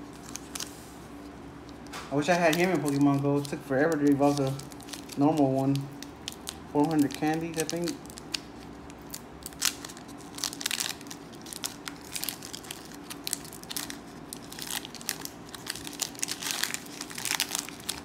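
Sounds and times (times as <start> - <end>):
foil wrapper crinkling and tearing: 0.0 - 0.8, 2.1 - 18.0.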